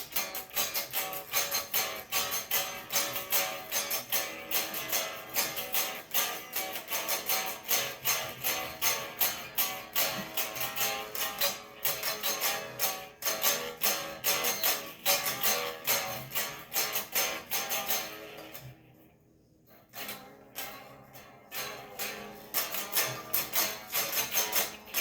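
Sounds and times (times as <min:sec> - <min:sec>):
guitar strumming: 0:00.0 - 0:19.1, 0:19.7 - 0:25.0.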